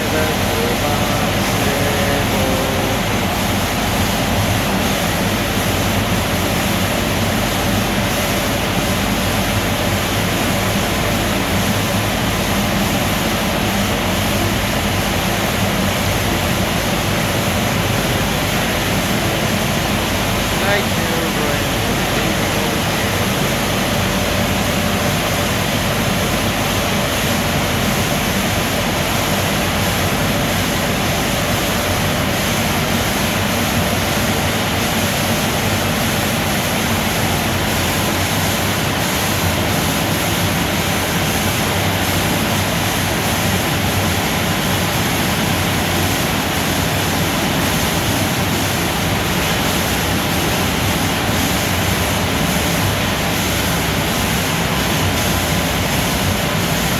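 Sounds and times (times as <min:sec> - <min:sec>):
car wash water spray and machinery: 0:00.0 - 0:56.9.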